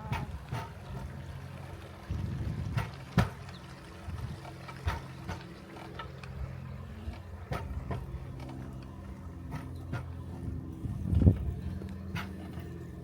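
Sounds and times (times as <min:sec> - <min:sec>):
steel wheels rolling on track: 0:00.0 - 0:13.0.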